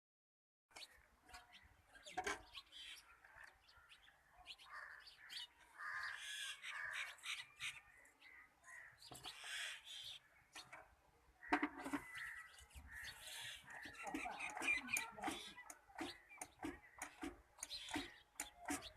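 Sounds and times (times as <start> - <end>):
birds calling: 0.7 - 18.9.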